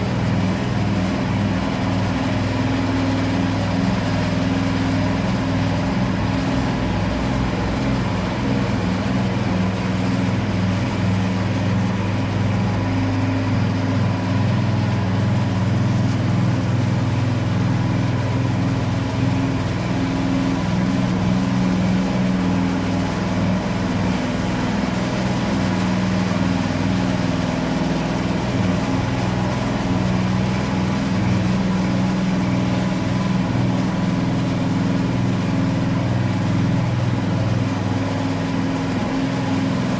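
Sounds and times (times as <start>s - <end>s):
petrol engine running steadily: 0.0s - 39.9s.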